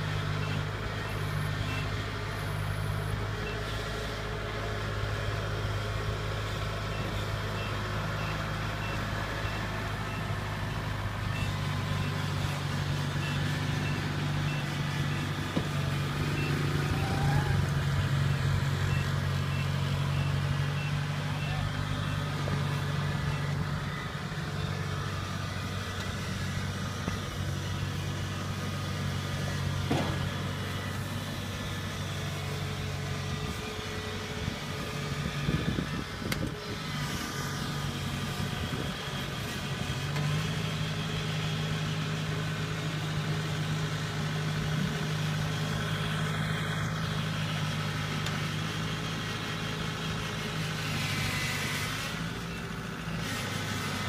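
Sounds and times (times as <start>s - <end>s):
combine harvester diesel engine: 0.0s - 54.0s.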